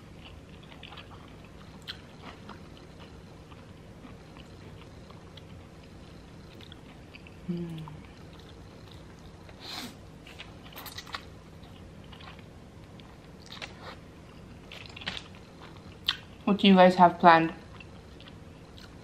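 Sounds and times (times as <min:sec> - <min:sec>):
person chewing food: 0:00.1 - 0:16.4, 0:17.7 - 0:19.0.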